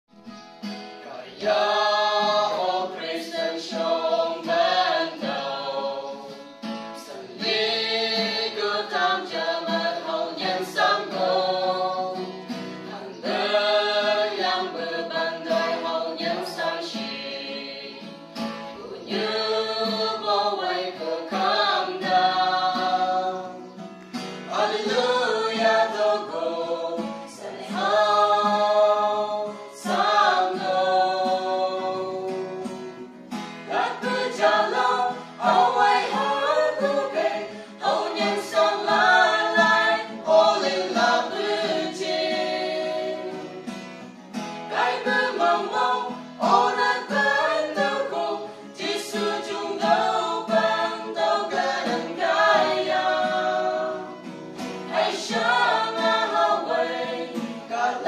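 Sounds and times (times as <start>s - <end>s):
strummed acoustic guitar: 0.1s - 58.0s
group singing in harmony: 1.0s - 58.0s.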